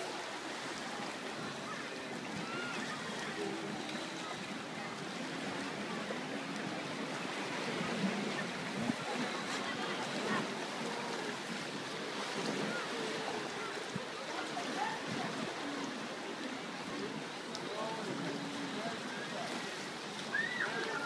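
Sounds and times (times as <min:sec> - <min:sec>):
faint indistinct voices: 0:00.0 - 0:21.0
sea water wash: 0:00.0 - 0:21.0.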